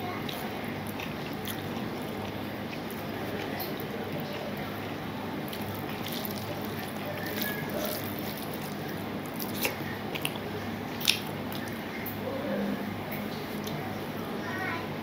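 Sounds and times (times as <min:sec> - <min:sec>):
fingers squishing food on plate: 0:00.2 - 0:12.2
person chewing: 0:00.2 - 0:12.2.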